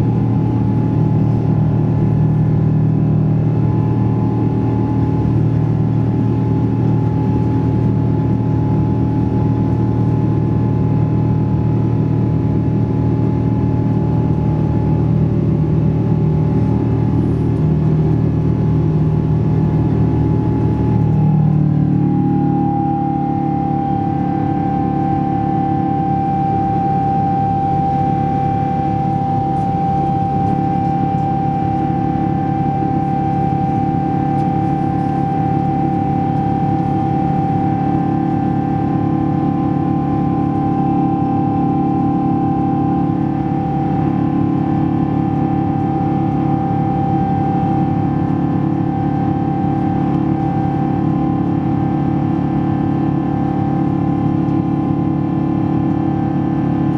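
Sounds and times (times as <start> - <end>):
jet engine drone in cabin: 0.0 - 56.9.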